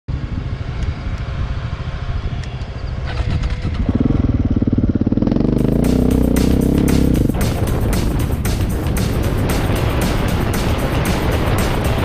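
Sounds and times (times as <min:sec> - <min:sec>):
motorcycle engine running: 0:01.3 - 0:12.0.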